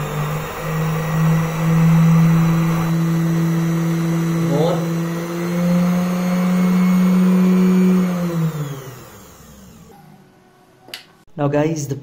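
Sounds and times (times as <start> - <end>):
electric motor whining: 0.0 - 10.4.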